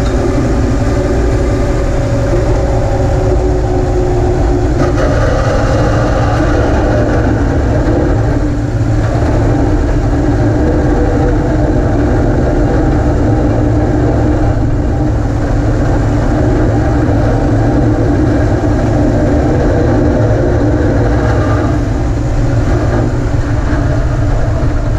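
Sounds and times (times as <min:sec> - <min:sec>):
diesel engine rumbling: 0:00.0 - 0:24.9.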